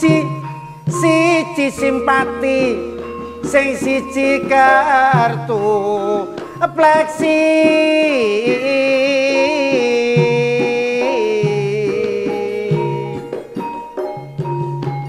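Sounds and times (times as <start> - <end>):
man singing slow melody: 0.0 - 13.8
gamelan and keyboard: 0.0 - 15.0.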